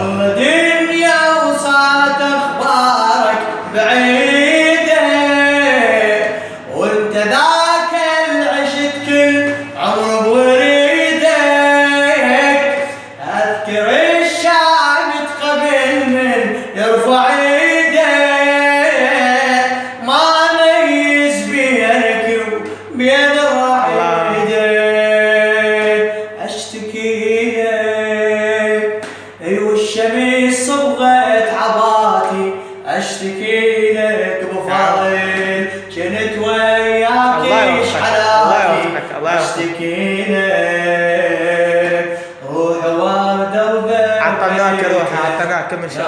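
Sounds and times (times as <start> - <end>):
man singing solo lament: 0.0 - 45.4
man chanting: 0.0 - 46.0.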